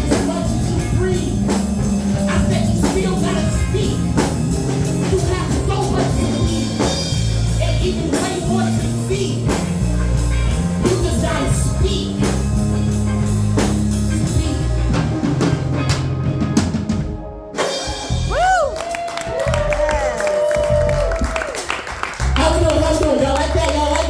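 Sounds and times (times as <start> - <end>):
band music: 0.0 - 24.0
held bass notes: 0.0 - 24.0
steady drum beat: 0.0 - 24.0.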